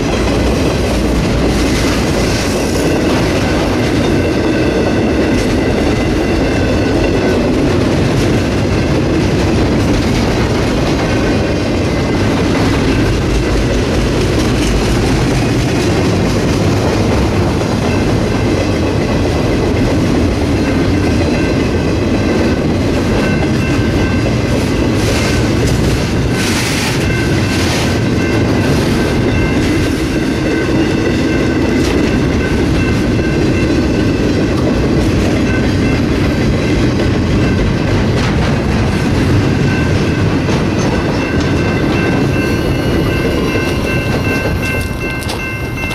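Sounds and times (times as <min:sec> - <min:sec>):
train wheels clicking over rail joints: 0:00.0 - 0:45.9.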